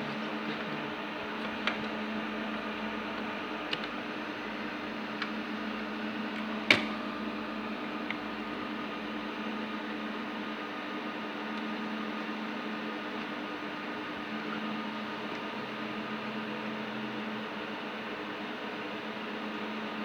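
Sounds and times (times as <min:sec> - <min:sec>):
electric cooling fans humming: 0:00.0 - 0:20.0.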